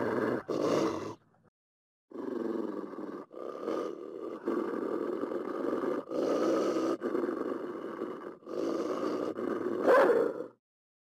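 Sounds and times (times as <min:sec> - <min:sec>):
wild canine rough vocal sounds: 0:00.0 - 0:01.2, 0:02.1 - 0:10.6.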